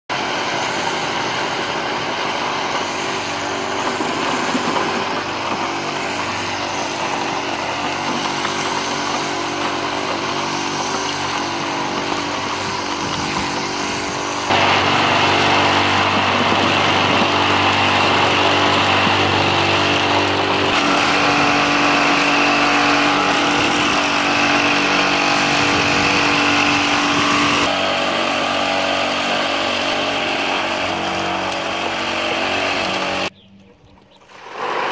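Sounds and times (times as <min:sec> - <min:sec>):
vibrating motor humming: 0:00.1 - 0:33.4.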